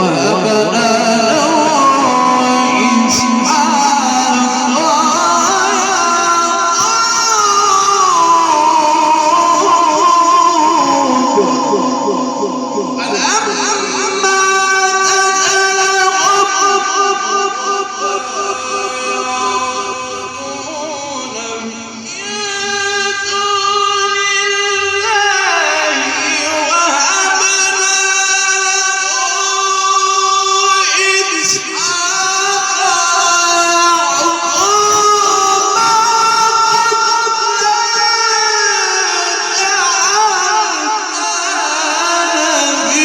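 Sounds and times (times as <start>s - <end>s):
man chanting recitation: 0.0s - 43.0s.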